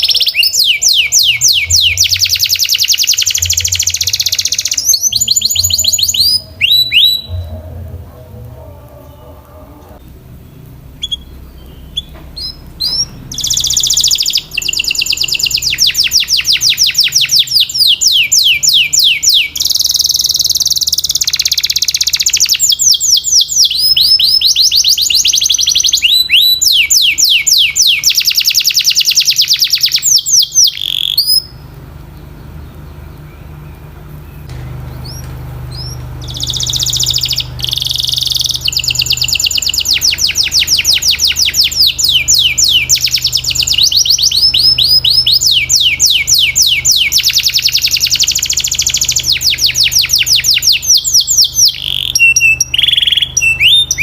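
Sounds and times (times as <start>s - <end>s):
canary singing trills: 0.0s - 54.0s
faint low hum: 0.0s - 54.0s.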